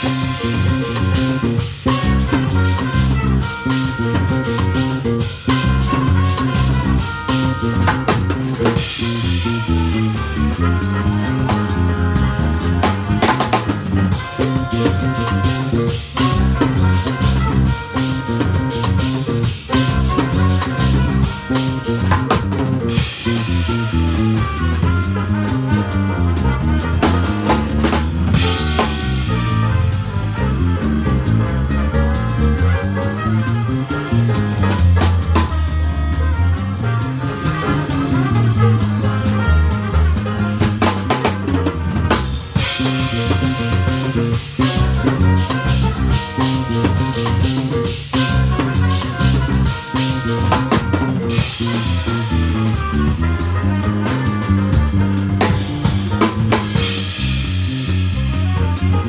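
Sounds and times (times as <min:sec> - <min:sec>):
drum kit playing: 0:00.0 - 0:59.0
electric bass line: 0:00.0 - 0:59.0.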